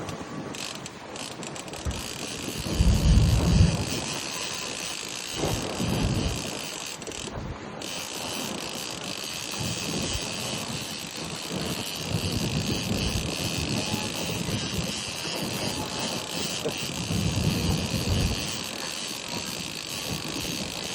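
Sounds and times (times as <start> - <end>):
boat engine running: 0.0 - 20.9
wind buffeting microphone: 0.0 - 20.9.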